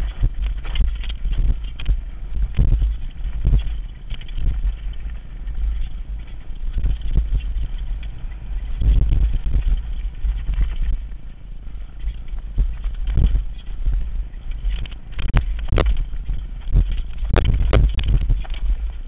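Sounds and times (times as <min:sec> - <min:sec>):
bike knocking and rattling: 0:00.0 - 0:19.0
wind rumble on microphone: 0:00.0 - 0:19.0.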